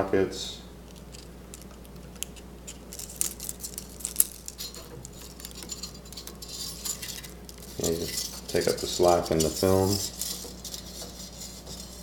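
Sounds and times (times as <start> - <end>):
film rattling against metal: 0.8 - 12.0.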